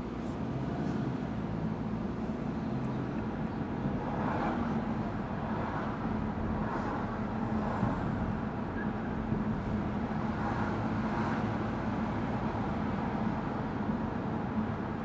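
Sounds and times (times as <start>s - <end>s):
car road and tyre noise: 0.0s - 15.0s.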